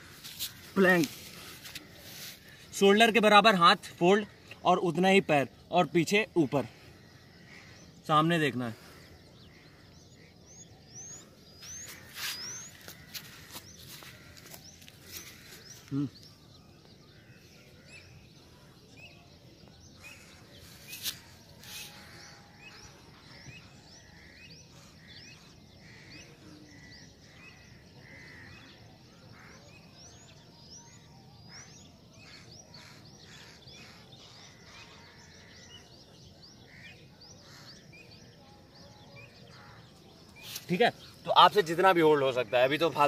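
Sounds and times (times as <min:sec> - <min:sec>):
faint birdsong chirps: 0:00.0 - 0:43.0.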